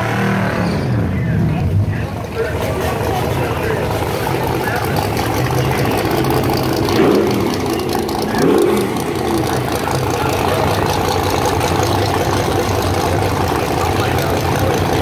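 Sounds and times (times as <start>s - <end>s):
engine throttle blips: 0.0s - 15.0s
car engine idling: 0.8s - 15.0s.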